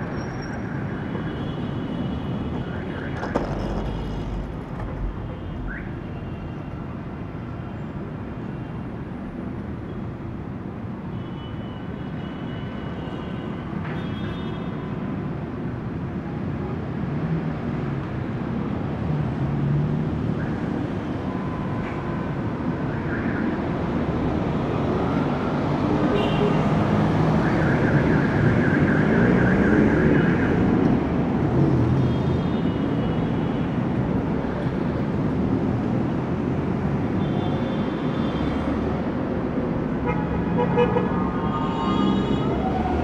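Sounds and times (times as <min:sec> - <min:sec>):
passing cars and engines: 0:00.0 - 0:11.0, 0:15.0 - 0:43.0.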